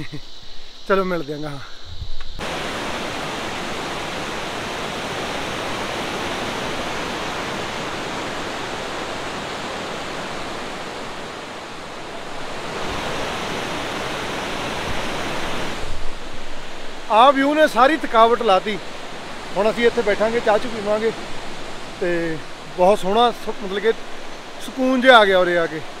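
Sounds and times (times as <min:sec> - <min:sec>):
river rapids roaring: 0:02.4 - 0:26.0.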